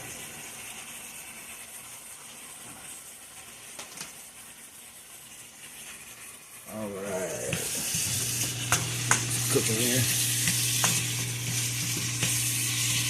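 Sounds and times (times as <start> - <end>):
garlic sizzling: 0.0 - 13.0.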